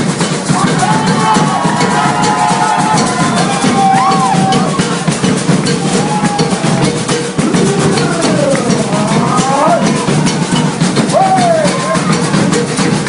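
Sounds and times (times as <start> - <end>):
bass and snare drumming: 0.0 - 13.0.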